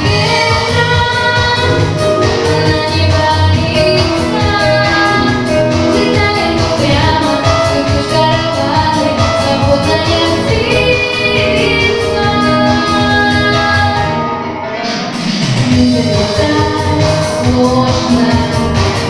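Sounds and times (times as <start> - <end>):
girl singing a pop song: 0.0 - 14.5, 15.6 - 19.0
accompaniment with steady beat: 0.0 - 19.0.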